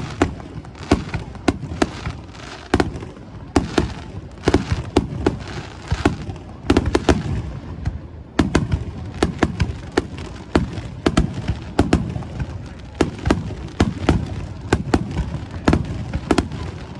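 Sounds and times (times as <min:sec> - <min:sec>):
fireworks bursting: 0:00.0 - 0:16.9.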